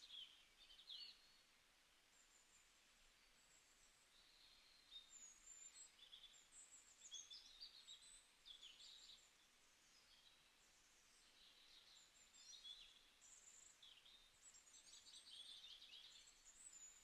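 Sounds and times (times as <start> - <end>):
faint bird chirping: 0.0 - 17.0
low background hiss: 0.0 - 17.0.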